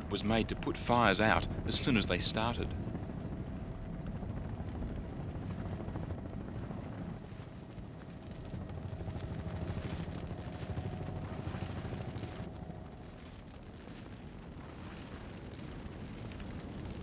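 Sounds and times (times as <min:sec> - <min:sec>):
faint steady whine: 0:00.0 - 0:17.0
helicopter rotor beat: 0:00.0 - 0:17.0.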